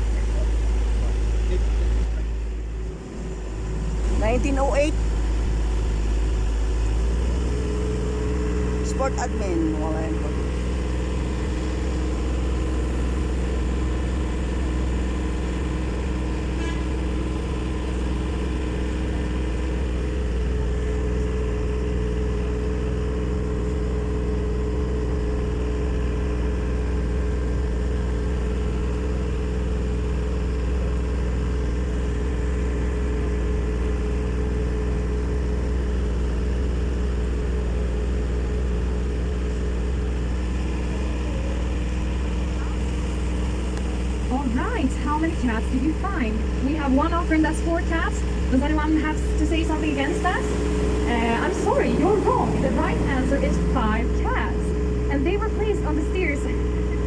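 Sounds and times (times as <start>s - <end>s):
boat motor humming: 0.0s - 57.0s.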